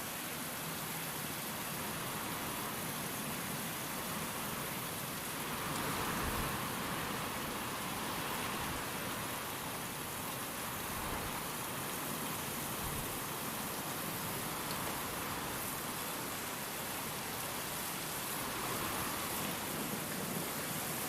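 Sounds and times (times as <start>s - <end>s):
steady rain falling: 0.0s - 21.0s
wind: 0.0s - 21.0s.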